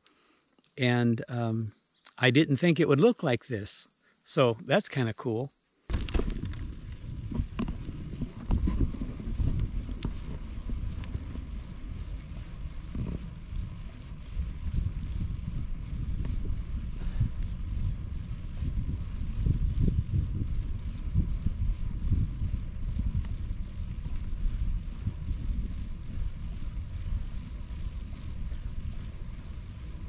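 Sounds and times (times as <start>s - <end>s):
crickets chirping: 0.0s - 30.0s
wind buffeting microphone: 5.9s - 30.0s.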